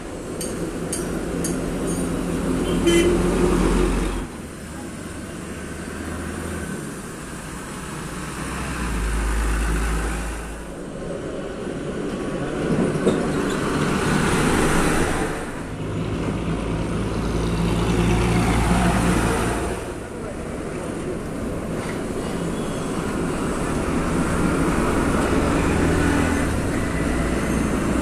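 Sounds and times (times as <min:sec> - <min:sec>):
diesel trucks passing: 0:00.0 - 0:28.0
steady traffic noise: 0:00.0 - 0:28.0.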